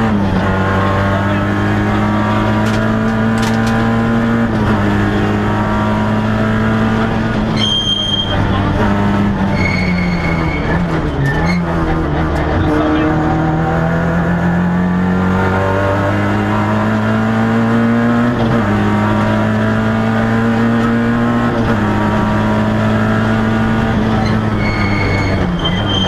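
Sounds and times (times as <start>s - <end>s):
rally car engine accelerating: 0.0s - 26.0s.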